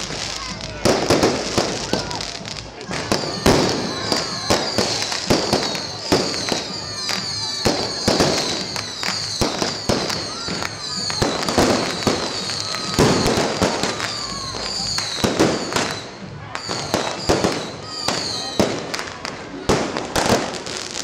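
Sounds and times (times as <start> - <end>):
fireworks bangs and crackles: 0.0 - 21.0
fireworks whistling: 0.0 - 21.0.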